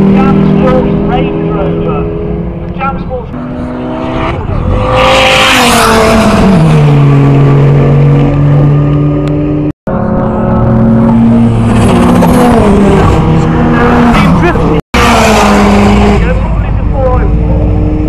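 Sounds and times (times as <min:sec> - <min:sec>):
race cars passing at speed: 0:00.0 - 0:18.0.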